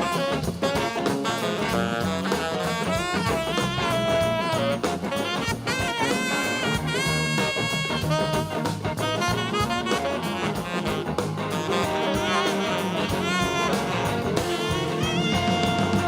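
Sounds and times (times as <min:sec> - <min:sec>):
drum kit: 0:00.0 - 0:16.0
horn section: 0:00.0 - 0:16.0.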